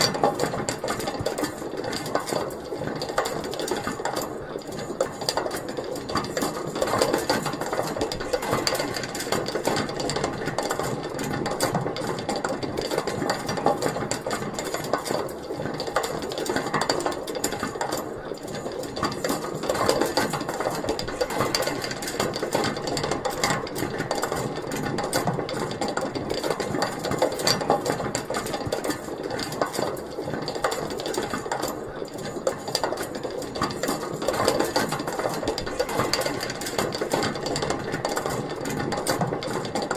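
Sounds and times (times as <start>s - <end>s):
pulley wheel rattling and clicking: 0.0s - 39.9s.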